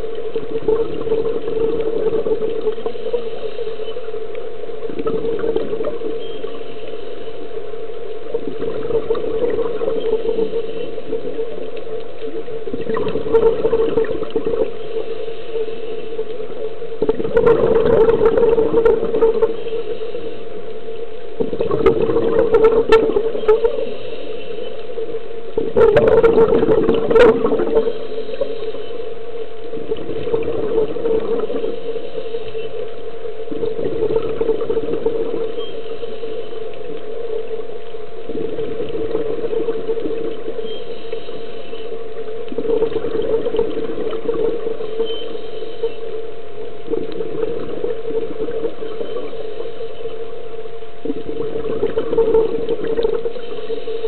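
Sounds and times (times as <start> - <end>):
exhaled bubbles gushing: 0.0 - 20.0, 20.8 - 54.0
steady hum: 0.0 - 54.0.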